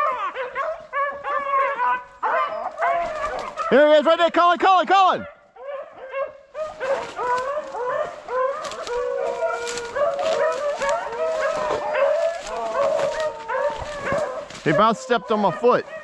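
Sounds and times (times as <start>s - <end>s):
pack of hounds baying: 0.0s - 4.3s, 5.0s - 16.0s.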